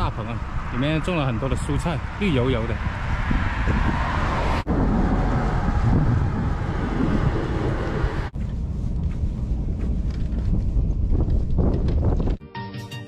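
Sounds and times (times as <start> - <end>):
van road and engine noise: 0.0 - 12.4
wind buffeting microphone: 0.0 - 12.4.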